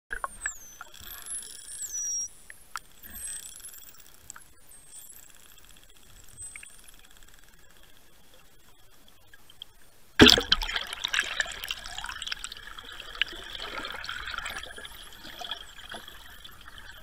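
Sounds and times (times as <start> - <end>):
dolphins whistling underwater: 0.1 - 8.0, 10.8 - 17.0.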